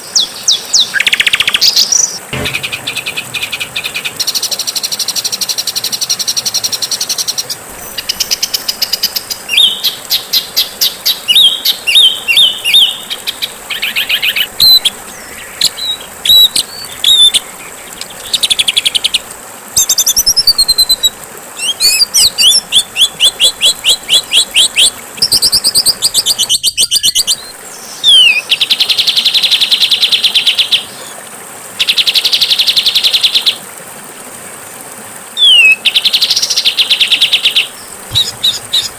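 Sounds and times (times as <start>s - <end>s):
songbirds singing: 0.0s - 31.2s, 35.4s - 38.9s
faint steady hiss: 0.0s - 38.9s.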